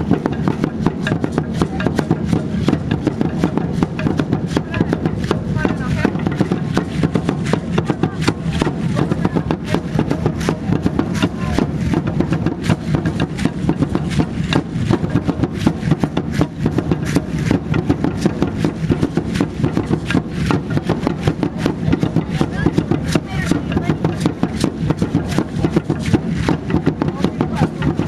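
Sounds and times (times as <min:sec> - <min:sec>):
ankle rattles clattering: 0:00.0 - 0:28.0
drumming steady beat: 0:00.0 - 0:28.0.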